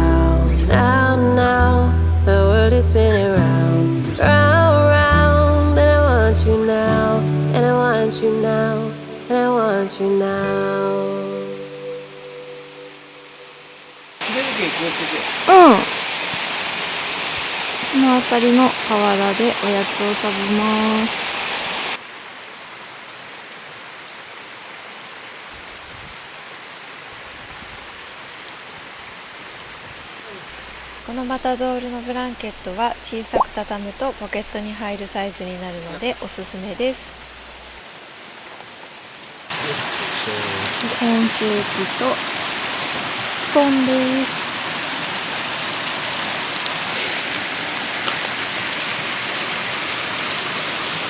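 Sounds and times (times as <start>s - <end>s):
stream flowing over riverbed: 6.6s - 51.0s.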